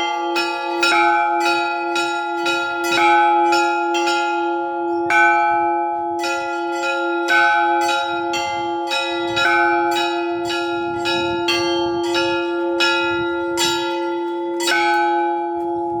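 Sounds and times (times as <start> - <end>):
deep bell humming: 0.0 - 16.0
small church bells ringing: 0.0 - 16.0.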